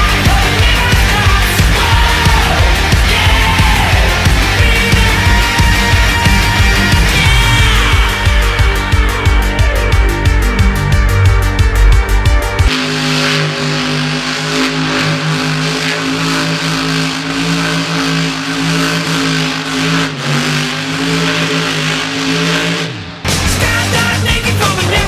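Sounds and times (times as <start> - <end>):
monster truck engine revving: 0.0 - 25.0.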